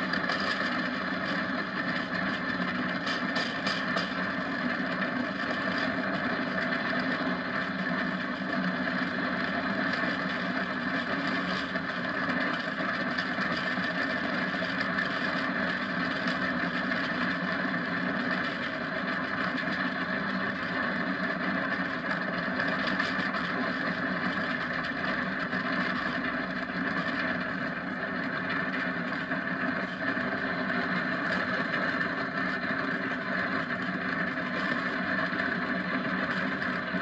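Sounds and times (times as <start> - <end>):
kart road noise: 0.0 - 37.0.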